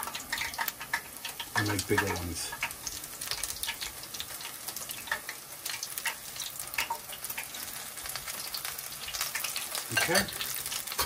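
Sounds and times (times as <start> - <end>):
batter deep-frying in oil: 0.0 - 11.0.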